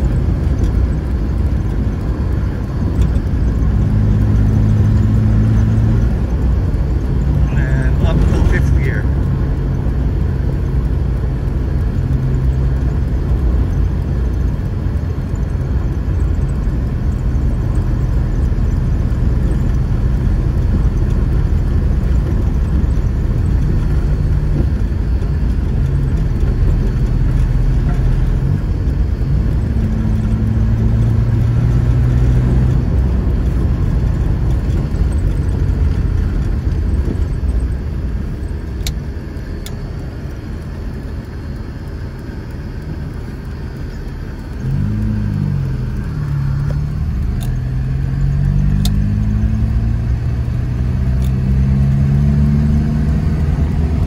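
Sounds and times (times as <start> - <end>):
car engine running: 0.0 - 54.0
tyre and road rumble: 0.0 - 54.0.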